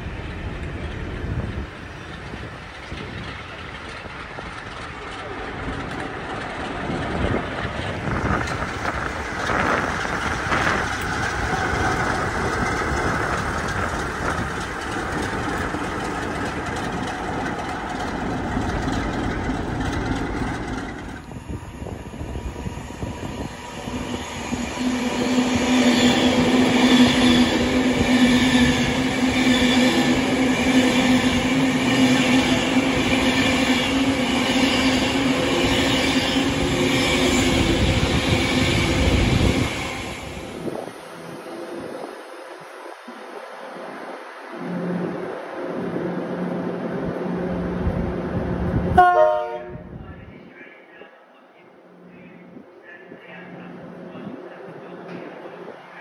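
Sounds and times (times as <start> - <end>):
electric train humming: 0.0 - 50.0
train coaches rumbling on rails: 0.0 - 56.0.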